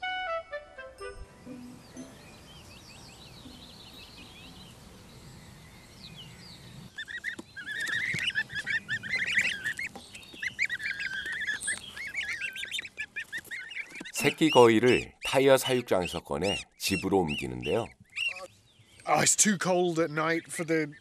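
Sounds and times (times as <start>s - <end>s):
goslings peeping: 0.9s - 21.0s.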